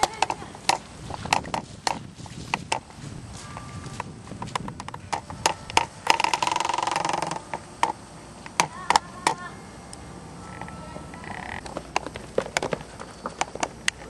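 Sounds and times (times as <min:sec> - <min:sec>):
running footsteps: 0:00.0 - 0:09.4, 0:10.7 - 0:14.0.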